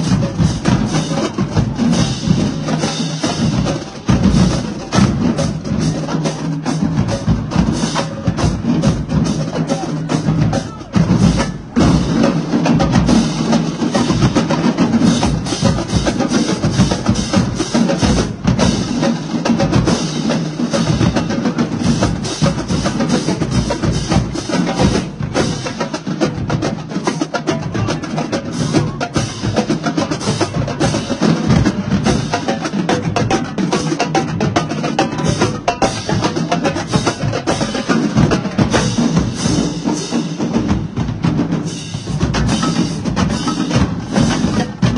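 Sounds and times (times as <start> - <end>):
snare drums: 0.0 - 44.9
tenor drums: 0.0 - 44.9.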